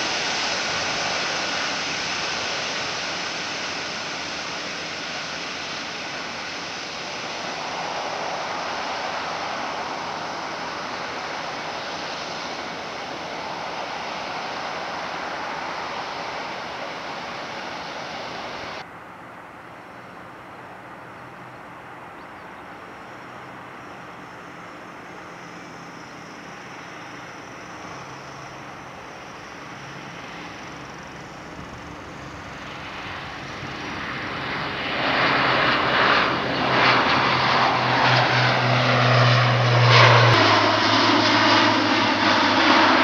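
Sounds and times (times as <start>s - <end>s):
turboprop engines with high whine: 0.0s - 43.0s.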